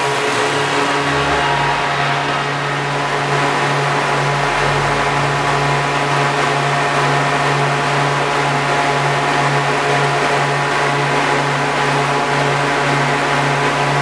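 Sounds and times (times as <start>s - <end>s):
car engine running on dyno: 0.0s - 14.0s
cooling fan rushing air: 0.0s - 14.0s.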